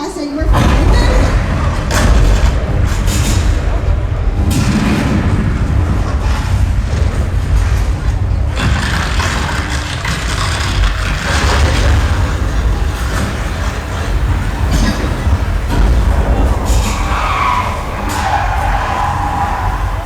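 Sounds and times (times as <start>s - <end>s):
deep rumble: 0.0s - 20.0s
crashing rushing noise: 0.4s - 20.0s.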